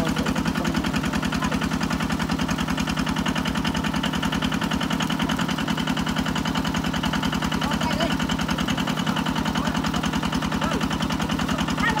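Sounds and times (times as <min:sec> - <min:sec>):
water pump engine running: 0:00.0 - 0:12.0.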